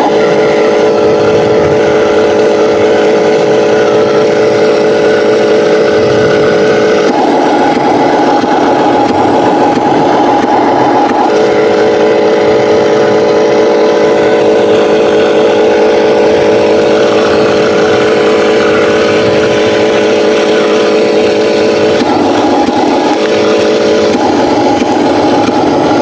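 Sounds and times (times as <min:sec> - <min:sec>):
toy truck motor drone: 0:00.0 - 0:26.0.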